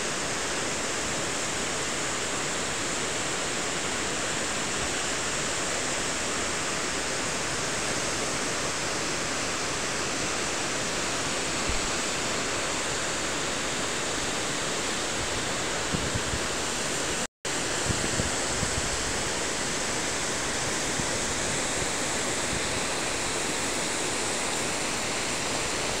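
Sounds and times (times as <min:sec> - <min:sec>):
waterfall rushing: 0:00.1 - 0:26.0.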